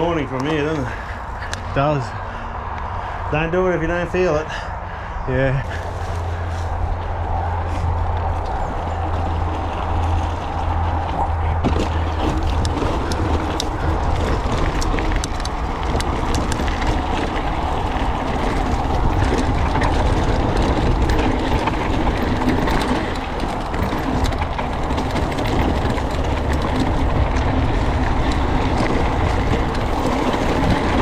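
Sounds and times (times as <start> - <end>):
bike tyres rolling over dirt: 0.0 - 31.0
wind rushing over camera: 4.7 - 31.0
bike chain clicks and rattles: 5.6 - 31.0.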